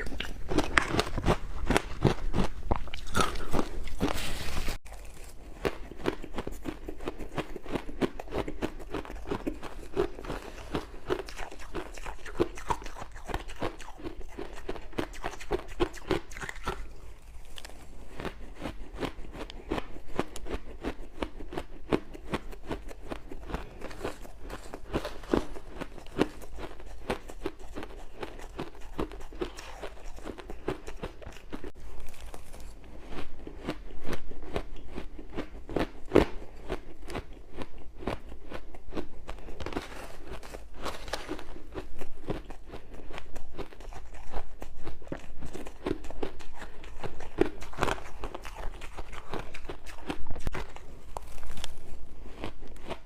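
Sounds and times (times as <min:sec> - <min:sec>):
ice crunching between teeth: 0:00.0 - 0:53.0.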